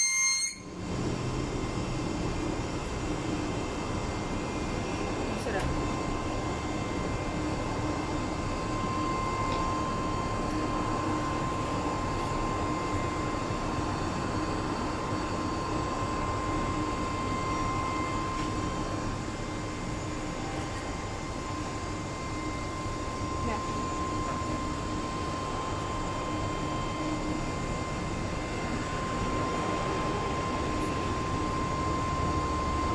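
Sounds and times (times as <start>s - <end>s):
high whine: 0.0s - 32.9s
machinery drone: 0.0s - 32.9s.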